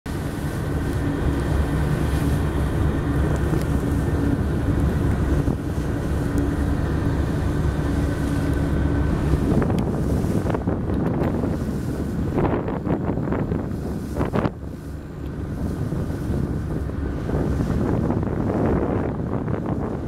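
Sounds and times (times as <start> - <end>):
speedboat engines droning: 0.1 - 20.0.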